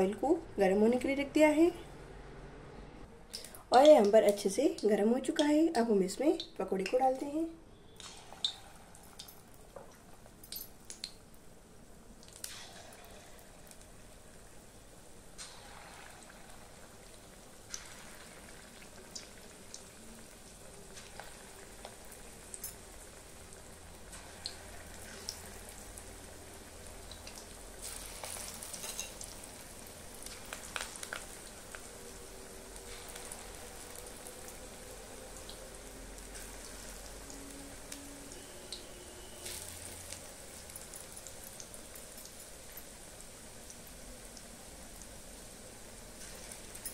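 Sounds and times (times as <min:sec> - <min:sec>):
batter sizzling in hot oil: 0:06.4 - 0:46.9.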